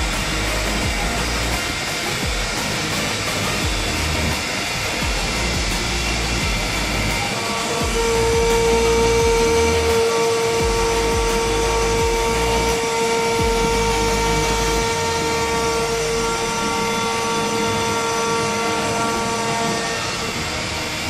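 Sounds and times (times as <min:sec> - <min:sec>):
bit milling wood: 0:00.0 - 0:21.0
router spindle whine: 0:00.0 - 0:21.0.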